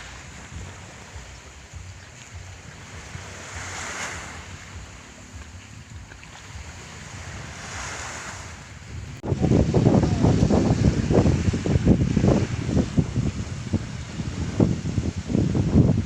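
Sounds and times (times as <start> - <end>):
wind gusting across microphone: 0.0 - 16.0.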